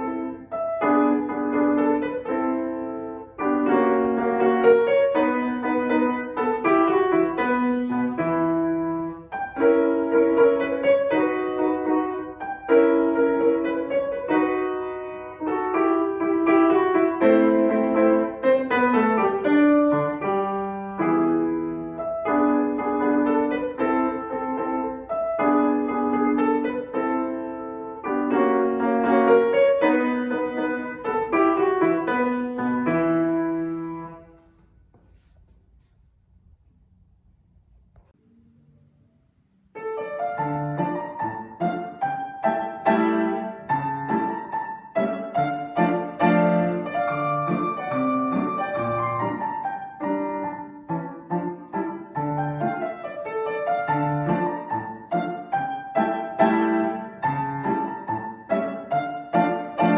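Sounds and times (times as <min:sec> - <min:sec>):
piano piece: 0:00.0 - 0:59.9.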